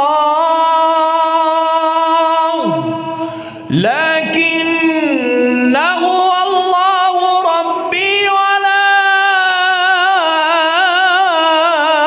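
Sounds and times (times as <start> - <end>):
man chanting melodic recitation: 0.0 - 12.0.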